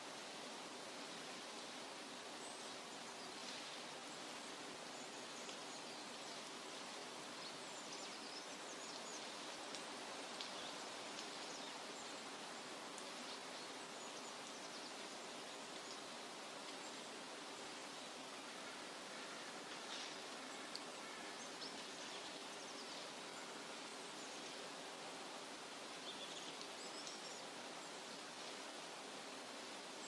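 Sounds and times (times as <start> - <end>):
steady water hiss: 0.0 - 30.0.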